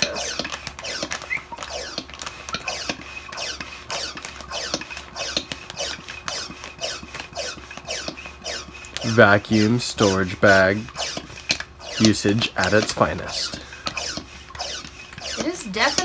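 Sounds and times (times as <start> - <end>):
squeaky vacuum pump strokes: 0.0 - 16.0.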